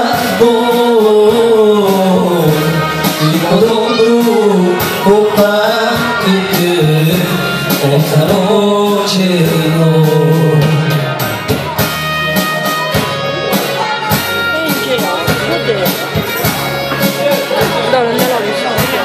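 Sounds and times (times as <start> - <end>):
live band playing folk music: 0.0 - 19.0.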